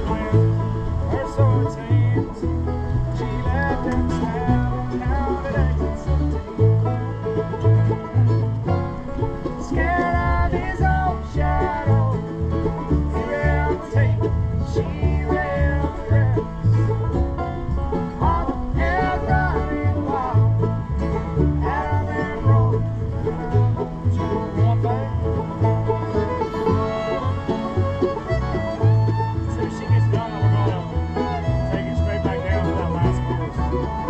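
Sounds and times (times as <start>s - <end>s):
banjo picking: 0.0s - 34.0s
bass line: 0.0s - 34.0s
bluegrass band playing: 0.0s - 34.0s.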